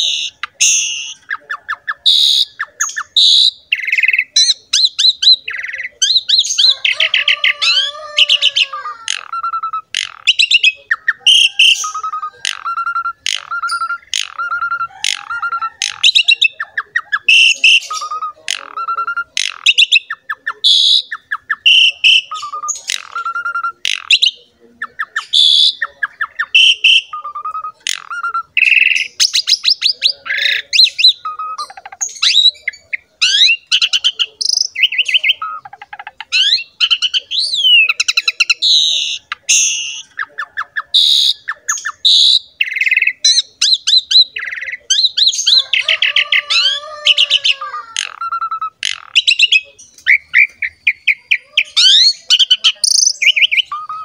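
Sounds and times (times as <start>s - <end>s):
starling singing chattering song: 0.0s - 54.0s.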